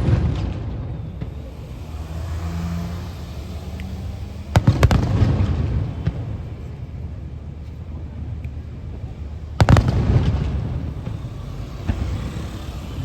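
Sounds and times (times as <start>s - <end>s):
fireworks booming: 0.0s - 13.0s
fireworks sharp cracks: 0.0s - 13.0s.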